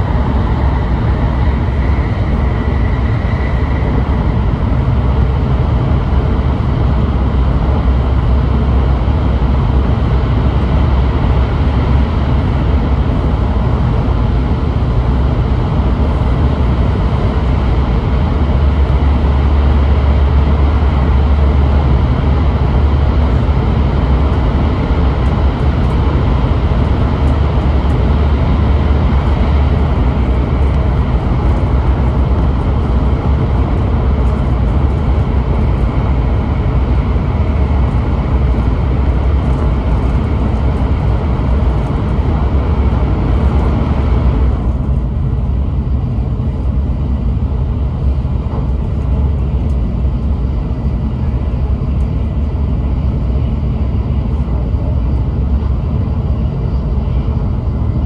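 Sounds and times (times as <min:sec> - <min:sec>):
train cabin rumble and rush: 0:00.0 - 0:58.0.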